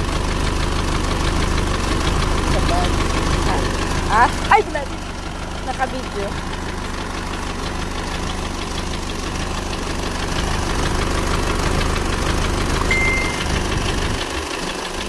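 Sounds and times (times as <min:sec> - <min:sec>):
diesel engine idling with clatter: 0:00.0 - 0:15.0.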